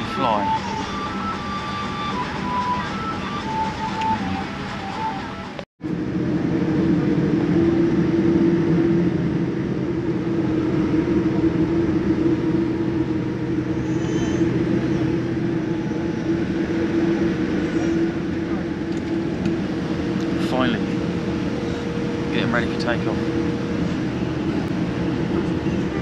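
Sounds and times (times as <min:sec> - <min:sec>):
airliner cabin drone: 0:00.0 - 0:26.0.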